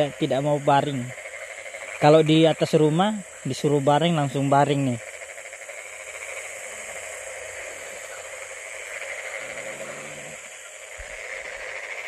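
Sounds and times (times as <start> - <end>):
insects and frogs calling: 0.0 - 12.0.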